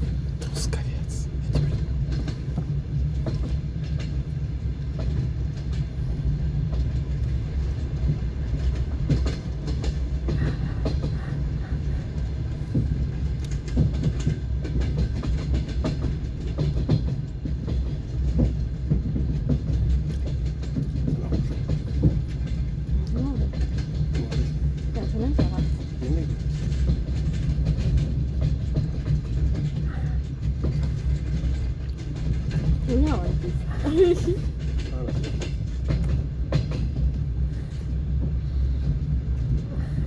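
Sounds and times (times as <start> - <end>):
train carriage rumble: 0.0 - 40.0
wheels clattering over rail joints: 1.4 - 40.0.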